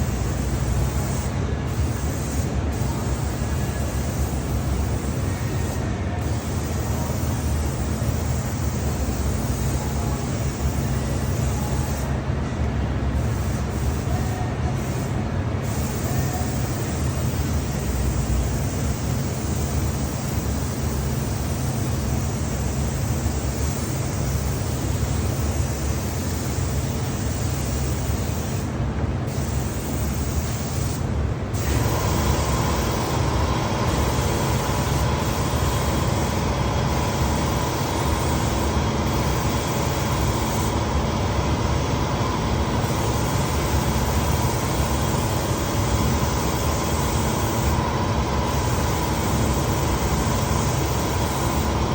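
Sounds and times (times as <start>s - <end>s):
higher hum with bright hiss: 0.0s - 51.9s
spraying equipment rumble and hiss: 0.0s - 51.9s.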